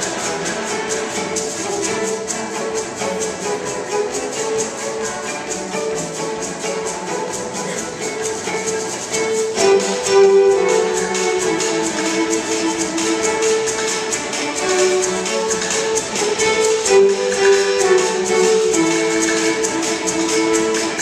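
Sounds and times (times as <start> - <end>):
quick percussion beat: 0.0 - 21.0
solo fiddle playing a reel: 0.0 - 21.0
string orchestra: 0.0 - 21.0.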